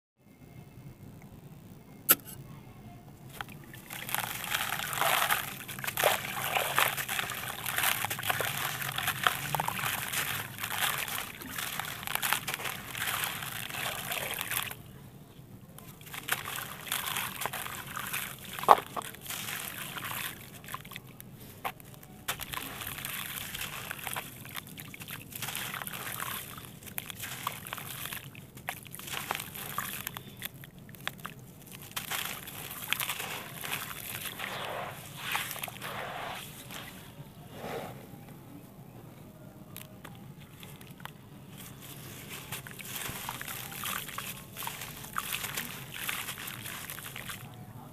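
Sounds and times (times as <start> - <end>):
grit pattering into water: 3.3 - 14.8, 15.8 - 37.2, 39.8 - 47.7.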